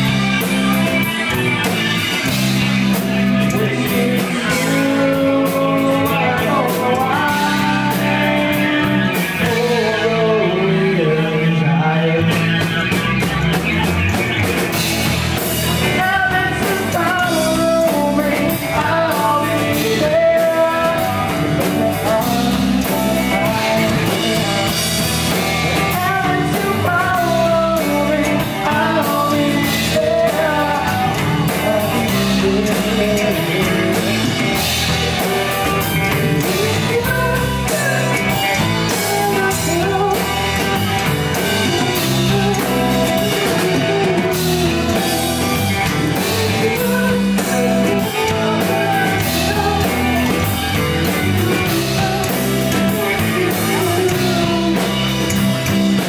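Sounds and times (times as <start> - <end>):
person singing: 0.0 - 13.5, 15.0 - 56.0
bass guitar: 0.0 - 56.0
drum kit: 0.0 - 56.0
electric guitars: 0.0 - 56.0.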